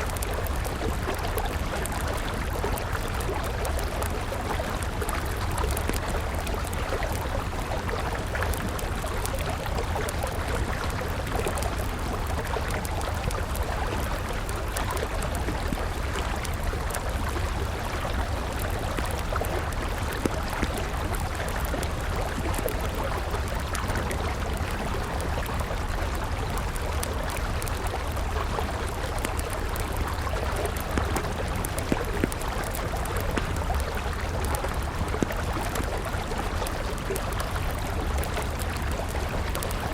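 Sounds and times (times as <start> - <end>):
wood fire crackling: 0.0 - 39.9
river flowing: 0.1 - 39.9.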